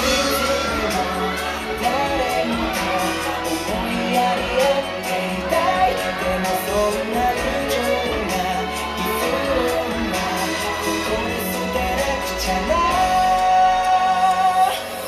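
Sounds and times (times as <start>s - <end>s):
steady drum beat: 0.0s - 14.4s
pop song with singing: 0.0s - 15.0s.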